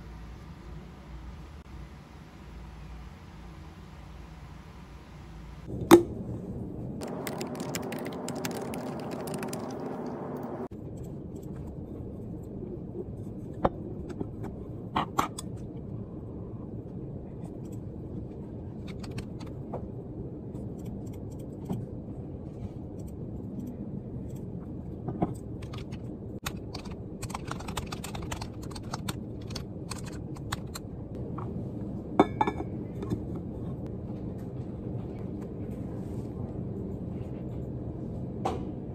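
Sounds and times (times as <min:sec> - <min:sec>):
low office hum: 0:00.0 - 0:38.9.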